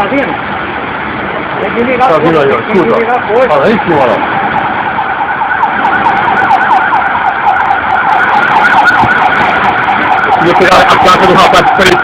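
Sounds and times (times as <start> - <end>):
emergency siren yelping: 2.2 - 12.0.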